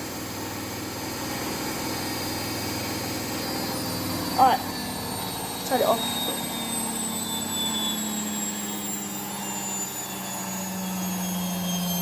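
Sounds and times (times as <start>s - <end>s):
washing machine drum spinning down: 0.0s - 12.0s.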